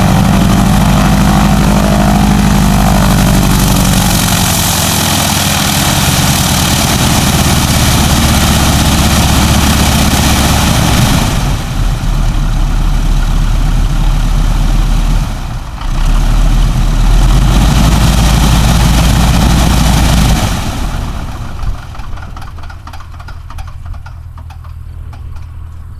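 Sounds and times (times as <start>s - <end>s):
radial aircraft engine idling: 0.0s - 15.9s, 16.6s - 25.9s.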